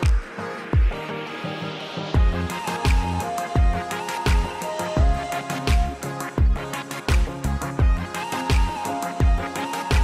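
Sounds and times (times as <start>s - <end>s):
kick drums: 0.0s - 1.0s, 2.2s - 10.0s.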